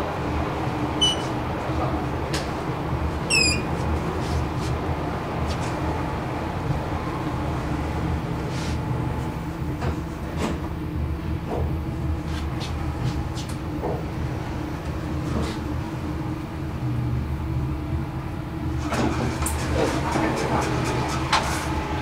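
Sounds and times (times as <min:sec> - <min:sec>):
elevator humming: 0:00.0 - 0:20.6.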